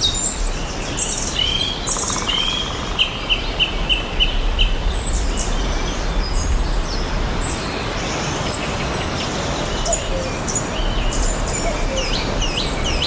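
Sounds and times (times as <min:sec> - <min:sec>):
forest ambience hiss: 0:00.0 - 0:13.0
songbirds chirping: 0:00.0 - 0:13.0.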